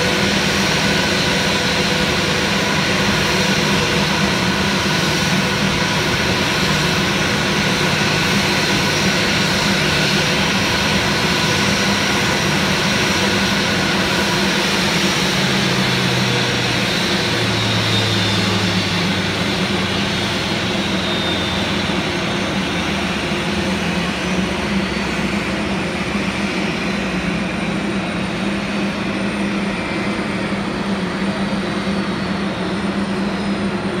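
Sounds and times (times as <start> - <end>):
jet engines whining: 0.0 - 34.0.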